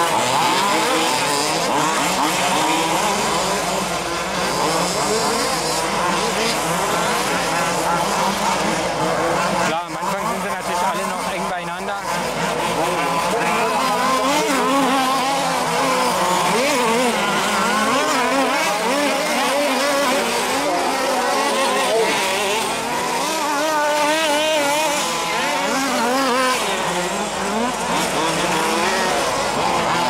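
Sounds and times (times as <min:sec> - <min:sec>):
rc buggy engines revving: 0:00.0 - 0:30.0.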